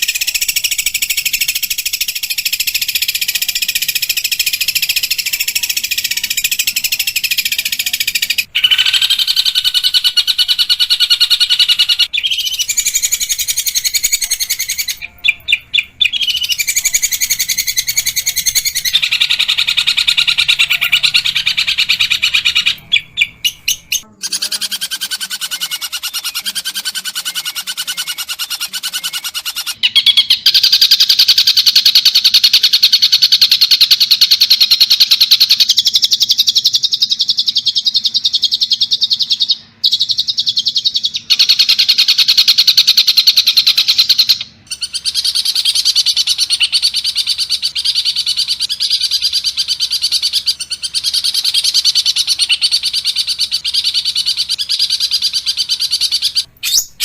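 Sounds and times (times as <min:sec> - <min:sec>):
bird calling in harsh rapid notes: 0:00.0 - 0:57.0.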